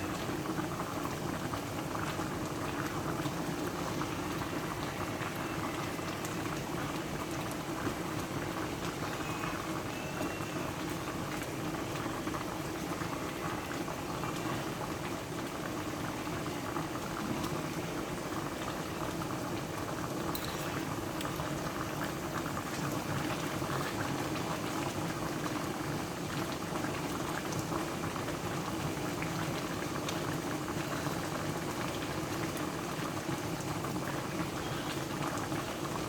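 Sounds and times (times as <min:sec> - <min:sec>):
sauce bubbling in pot: 0:00.0 - 0:36.0.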